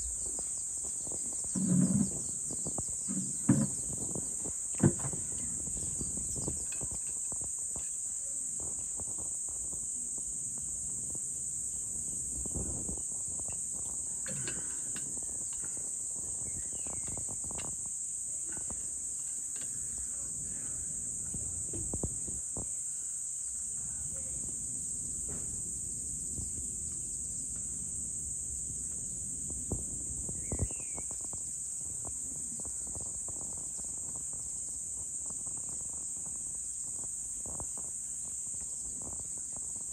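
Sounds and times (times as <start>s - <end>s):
insects shrilling: 0.0s - 25.0s, 27.4s - 39.9s.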